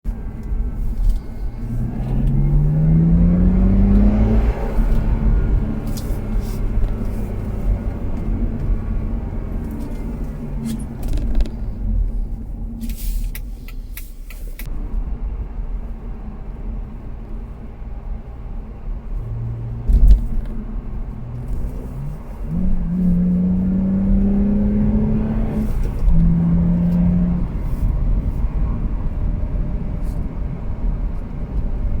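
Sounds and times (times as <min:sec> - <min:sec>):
car engine driving: 0:00.0 - 0:32.0
road rumble: 0:00.0 - 0:32.0.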